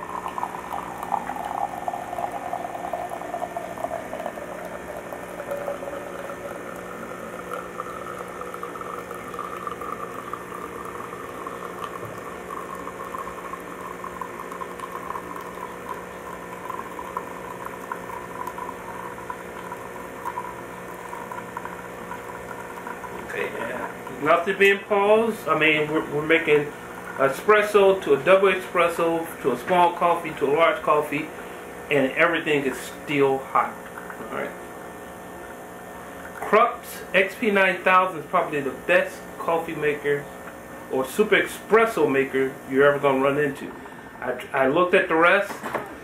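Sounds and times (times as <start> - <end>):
coffee gurgling into a mug: 0.0 - 44.0
espresso machine pump humming: 0.0 - 46.0.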